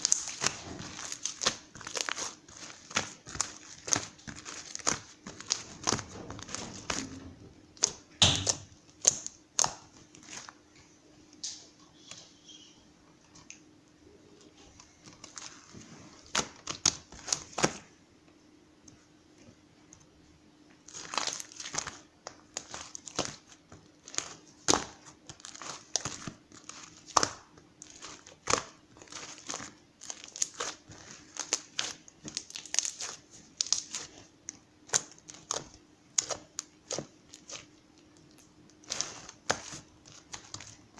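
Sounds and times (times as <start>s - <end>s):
crinkling and rustling: 0.0s - 17.9s, 20.7s - 40.9s.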